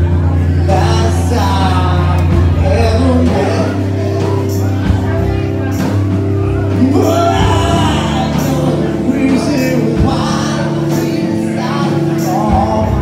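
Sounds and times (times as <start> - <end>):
lead vocal: 0.0 - 13.0
live rock band playing: 0.0 - 13.0.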